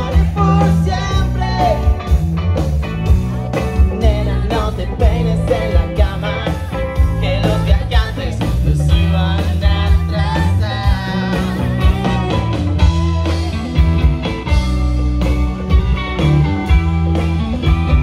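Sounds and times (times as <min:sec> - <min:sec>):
bass guitar: 0:00.0 - 0:18.0
drums: 0:00.0 - 0:18.0
electric guitars: 0:00.0 - 0:18.0.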